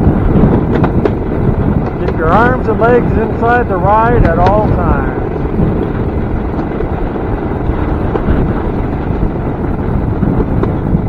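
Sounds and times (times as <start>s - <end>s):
railcart rumbling on track: 0.0s - 11.0s
wind buffeting microphone: 0.0s - 11.0s.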